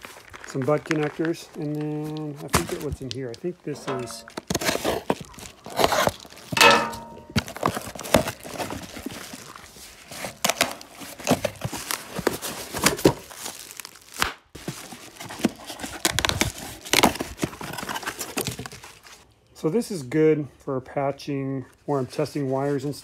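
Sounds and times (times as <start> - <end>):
packaging rustling and crinkling: 0.0 - 6.6, 7.3 - 19.2.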